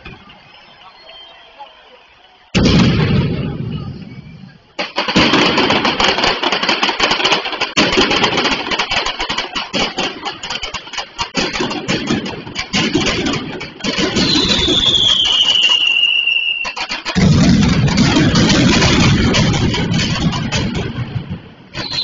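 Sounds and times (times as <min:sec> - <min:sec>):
loud firecracker bang: 0:02.6 - 0:22.0
rattle of firecracker bangs: 0:02.6 - 0:22.0.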